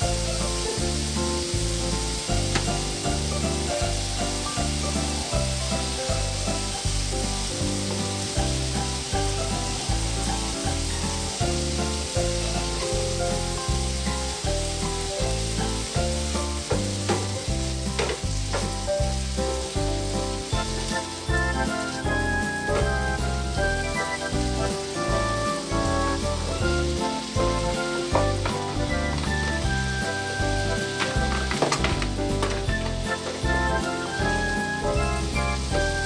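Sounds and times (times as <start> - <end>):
music with beat and bass: 0.0 - 36.0
sizzling hiss: 0.0 - 36.0.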